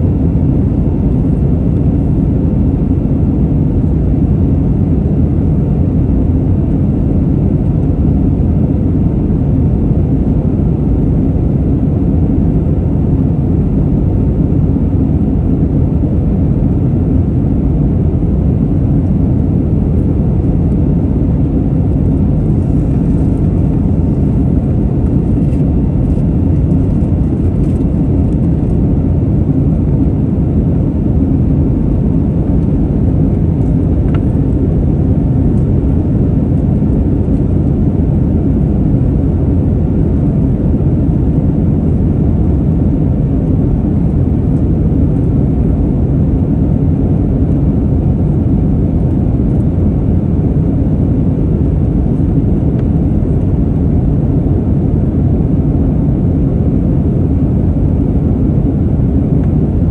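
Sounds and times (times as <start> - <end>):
jet engines roaring in cabin: 0.0 - 59.9.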